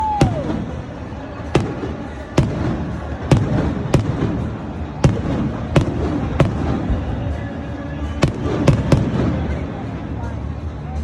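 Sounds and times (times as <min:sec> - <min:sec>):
fireworks bangs: 0:00.0 - 0:10.6.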